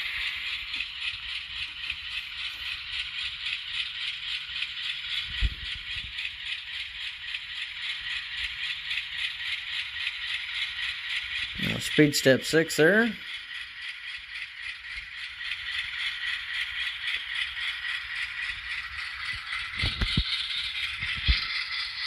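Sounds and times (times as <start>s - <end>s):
model train diesel engine sound: 0.0s - 22.0s.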